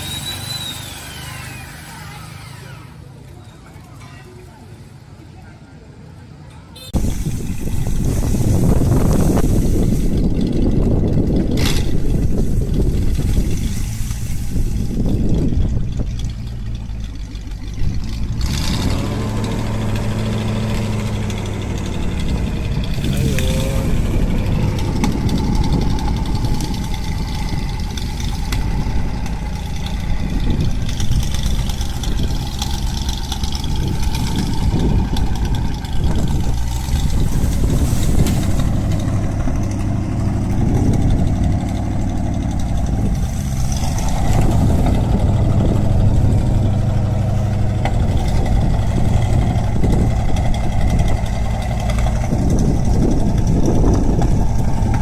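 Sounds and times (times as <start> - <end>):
wood chipper engine running: 0.0 - 3.3, 7.0 - 55.0.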